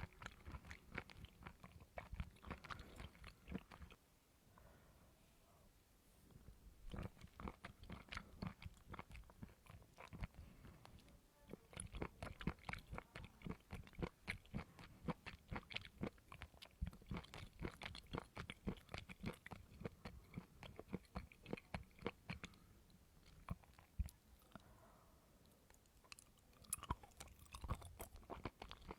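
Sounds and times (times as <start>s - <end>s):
crunchy chewing of coconut: 0.0s - 4.0s, 6.9s - 22.6s, 23.2s - 24.7s, 26.0s - 28.9s.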